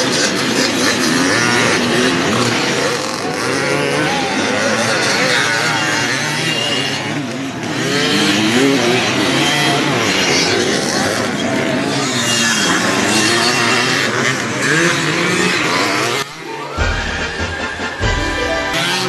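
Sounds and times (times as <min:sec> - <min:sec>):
motorcycle engines revving: 0:00.0 - 0:19.0
people talking: 0:00.0 - 0:19.0.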